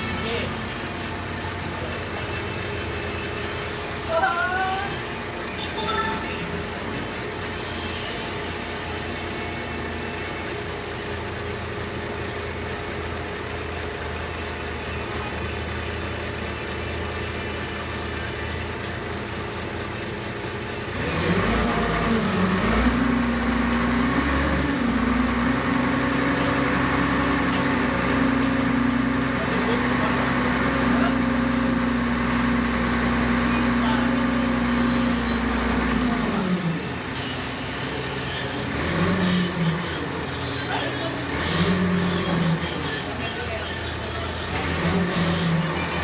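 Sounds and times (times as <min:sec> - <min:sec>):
excavator diesel engine: 0:00.0 - 0:46.0.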